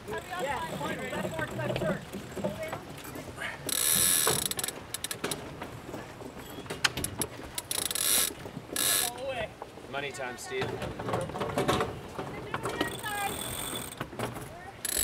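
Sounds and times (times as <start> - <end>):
winch pawl clicking: 0.1 - 9.3, 10.7 - 15.0.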